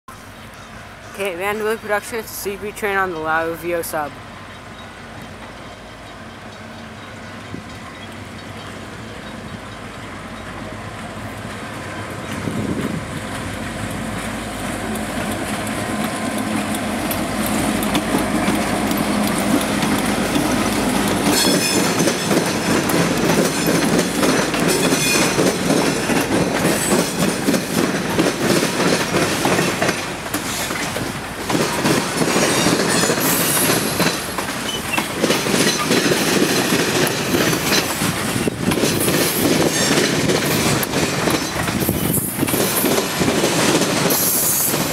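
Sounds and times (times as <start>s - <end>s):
diesel locomotive rumble: 0.1s - 44.9s
wheels squealing on rail: 4.3s - 13.7s, 15.5s - 31.0s, 32.1s - 44.9s
train wheels clickety-clack: 4.8s - 44.9s.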